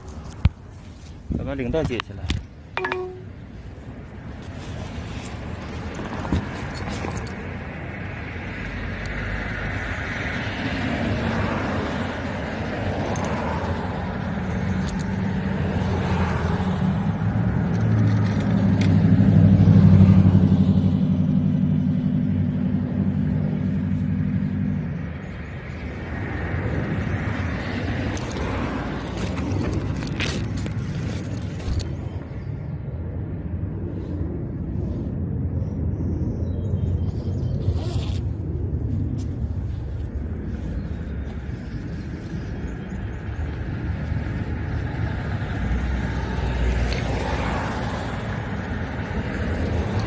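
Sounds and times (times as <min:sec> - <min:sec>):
cars passing with tyre noise: 0:00.0 - 0:50.0
low engine hum: 0:01.9 - 0:50.0.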